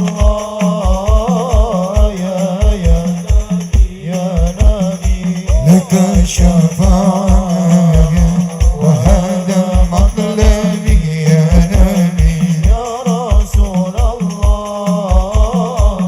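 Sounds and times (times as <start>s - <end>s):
frame drums with jingles: 0.0s - 16.0s.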